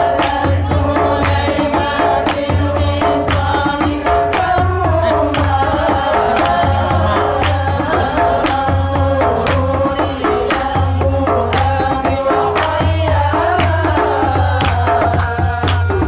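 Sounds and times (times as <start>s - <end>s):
hand-drum strikes: 0.0s - 16.0s
men singing together: 0.0s - 16.0s.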